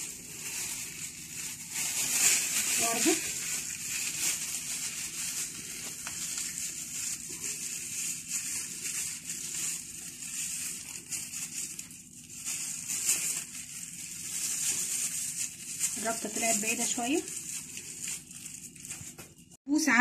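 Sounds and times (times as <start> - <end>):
plastic bag crinkling: 0.0 - 19.6.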